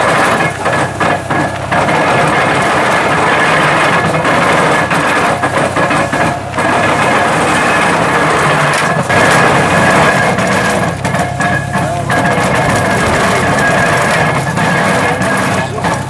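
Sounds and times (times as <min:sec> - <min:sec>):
hay baler running: 0:00.0 - 0:16.0
thin steady whine: 0:00.0 - 0:16.0.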